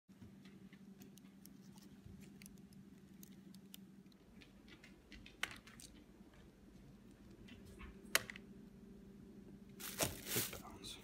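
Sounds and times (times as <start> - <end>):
steady low hum: 0.1 - 11.0.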